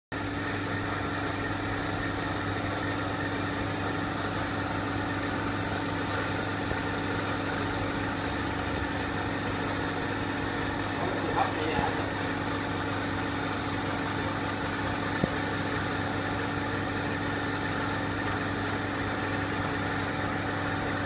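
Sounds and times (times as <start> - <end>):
aquarium air pump humming: 0.1 - 21.0
air stone bubbling: 1.1 - 21.0.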